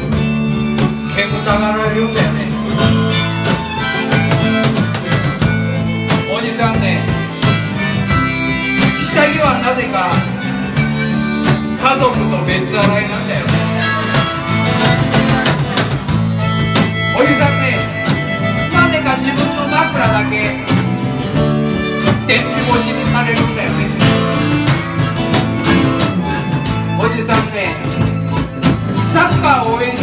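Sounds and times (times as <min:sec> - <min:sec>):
strummed acoustic instruments: 0:00.0 - 0:30.0.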